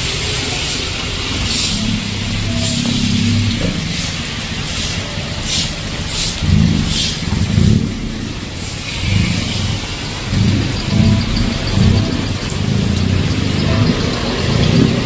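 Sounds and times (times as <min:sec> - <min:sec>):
heavy rain hissing on street: 0:00.0 - 0:15.0
low rumbling pulses: 0:00.0 - 0:15.0
traffic driving through water: 0:00.0 - 0:15.0.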